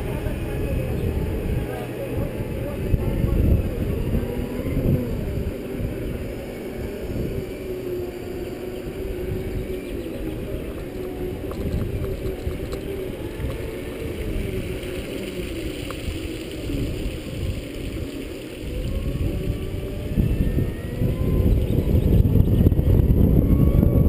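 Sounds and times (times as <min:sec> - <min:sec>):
electric motor whine: 0:00.0 - 0:24.0
wind on microphone: 0:00.0 - 0:24.0.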